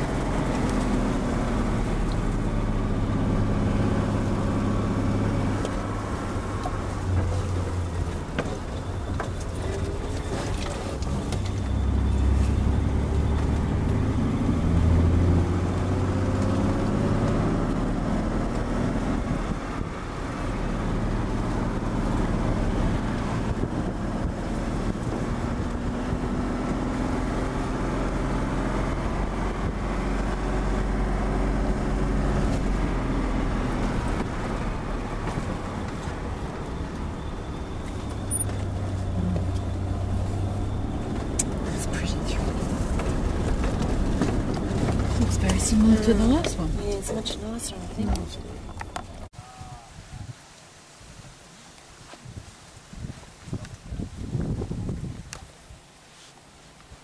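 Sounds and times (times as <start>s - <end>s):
vehicle engine running: 0.0s - 49.3s.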